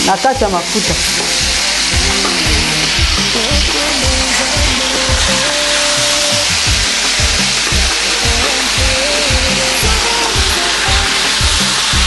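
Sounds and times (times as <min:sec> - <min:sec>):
background music: 0:00.0 - 0:12.0
fish sizzling in hot oil: 0:00.0 - 0:12.0.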